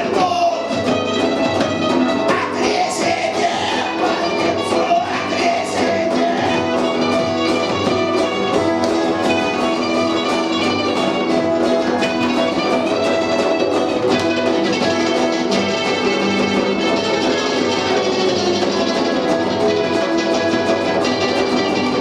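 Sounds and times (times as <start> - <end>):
electric guitar: 0.0 - 22.0
punk rock band playing: 0.0 - 22.0.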